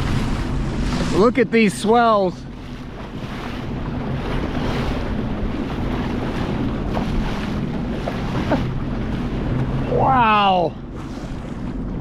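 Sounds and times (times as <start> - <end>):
jet ski engine drone: 0.0 - 12.0
water rushing on rough sea: 0.0 - 12.0
wind buffeting microphone: 0.0 - 12.0.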